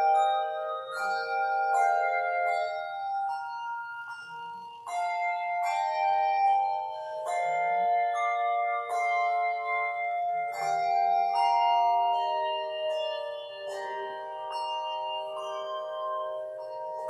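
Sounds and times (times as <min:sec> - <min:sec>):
handbell chords ringing: 0:00.0 - 0:17.0.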